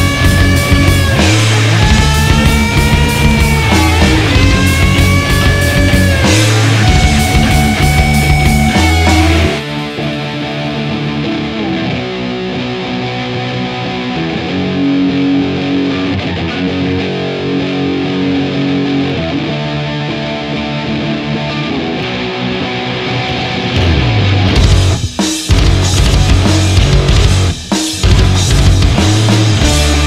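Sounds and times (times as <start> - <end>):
distorted electric guitar rock music: 0.0 - 30.0.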